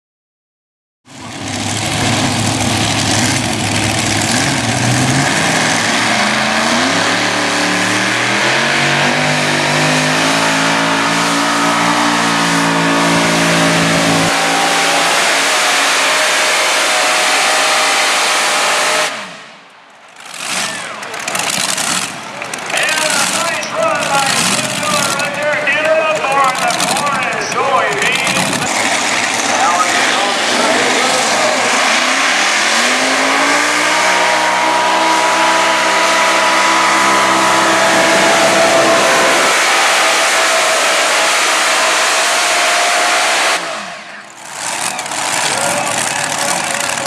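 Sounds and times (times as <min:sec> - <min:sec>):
pulling tractor engines roaring: 0:01.1 - 0:47.0.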